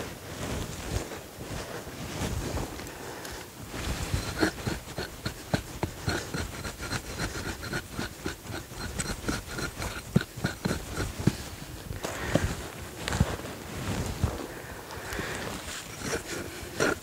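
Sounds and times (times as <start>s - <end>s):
hand tool digging dry soil: 3.2s - 17.0s.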